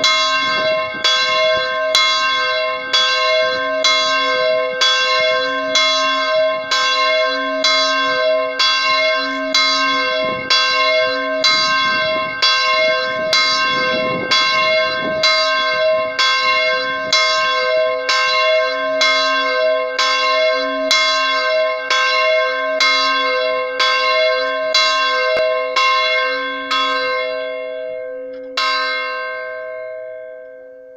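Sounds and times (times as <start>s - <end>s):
church bell ringing: 0.0s - 30.9s.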